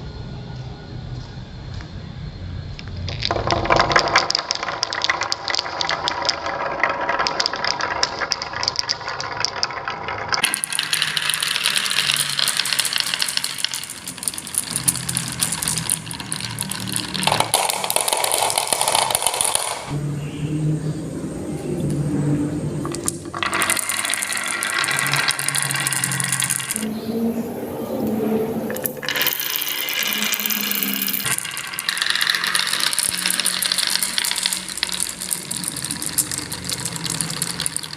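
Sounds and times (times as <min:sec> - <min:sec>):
marbles rattling on a track: 0:03.1 - 0:20.0, 0:22.8 - 0:27.0, 0:28.0 - 0:37.9.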